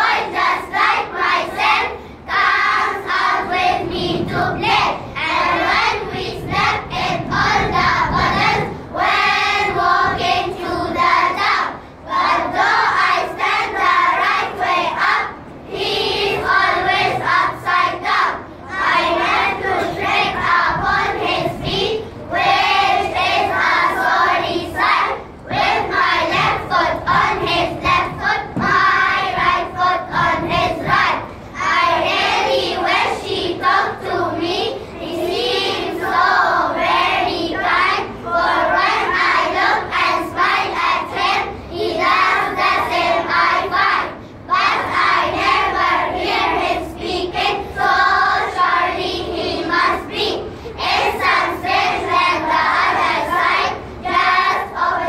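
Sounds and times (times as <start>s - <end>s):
children singing together: 0.0s - 55.0s.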